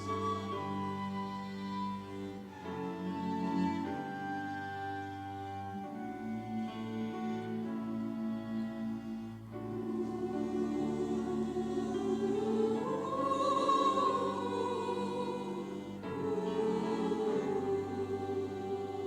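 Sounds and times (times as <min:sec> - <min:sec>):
choir singing with orchestra: 0:00.0 - 0:19.0.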